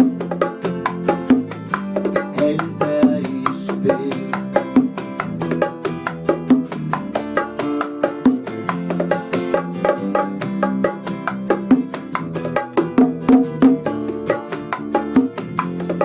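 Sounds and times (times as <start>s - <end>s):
bongo strokes: 0.0s - 16.0s
plucked guitar lines: 0.0s - 16.0s.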